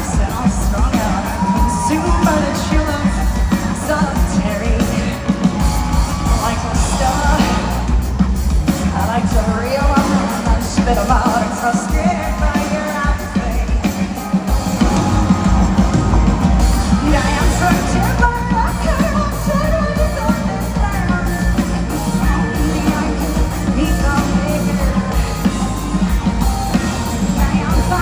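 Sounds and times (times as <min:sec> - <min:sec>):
live rock band playing: 0:00.0 - 0:28.0
woman singing lead: 0:00.0 - 0:28.0.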